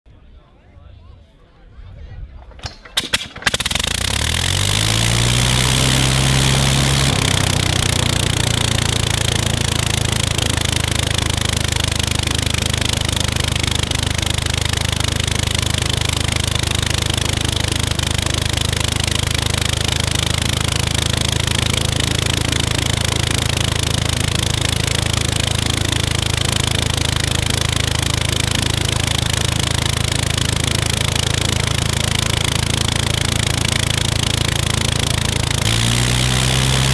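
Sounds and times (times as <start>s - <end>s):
engine firing pops: 2.5s - 36.9s
rotary aero engine running: 2.9s - 36.9s.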